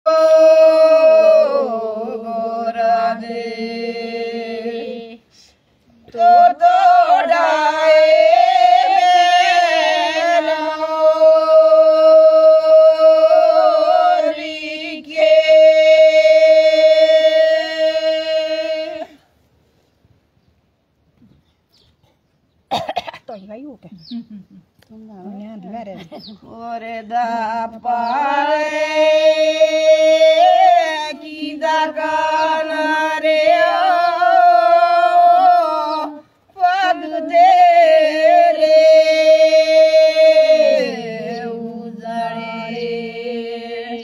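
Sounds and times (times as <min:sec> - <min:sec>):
women singing unaccompanied: 0:00.1 - 0:19.3, 0:24.9 - 0:44.0.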